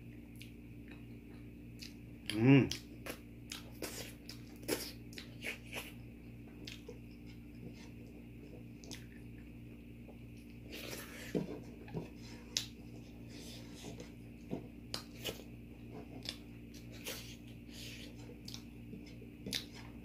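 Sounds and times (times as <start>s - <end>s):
soft chewing: 0.0s - 20.0s
steady low hum: 0.0s - 20.0s.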